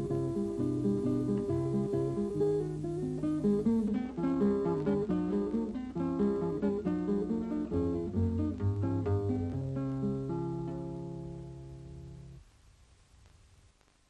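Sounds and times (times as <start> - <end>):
acoustic guitar melody: 0.0 - 12.4.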